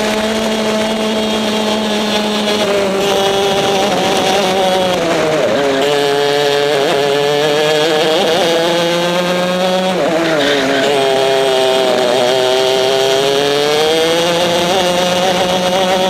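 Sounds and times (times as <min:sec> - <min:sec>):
racing kart engine: 0:00.0 - 0:16.0.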